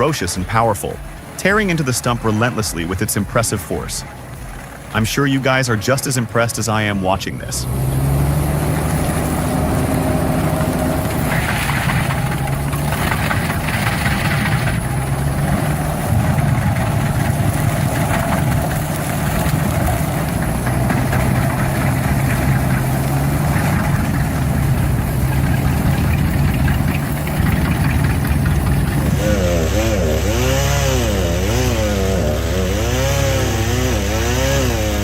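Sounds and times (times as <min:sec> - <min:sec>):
grinding into stump: 0:00.0 - 0:35.0
stump grinder engine running: 0:00.0 - 0:35.0.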